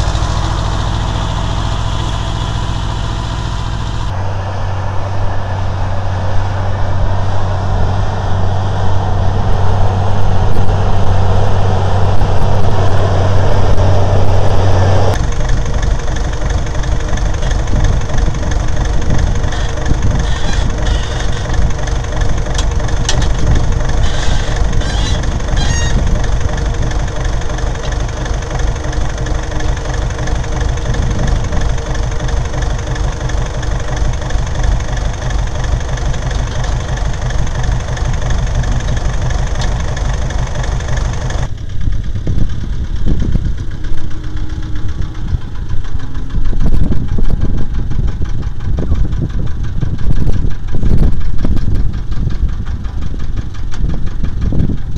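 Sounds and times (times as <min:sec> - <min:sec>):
rough tractor engine rumble: 0:00.0 - 0:54.9
tractor diesel engine idling: 0:00.0 - 0:54.9.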